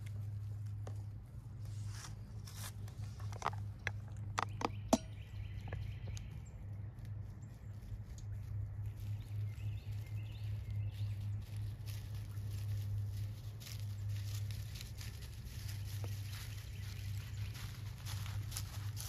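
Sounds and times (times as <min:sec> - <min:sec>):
footsteps in dry leaves: 0:00.0 - 0:03.8, 0:05.1 - 0:19.0
steady low hum: 0:00.0 - 0:19.0.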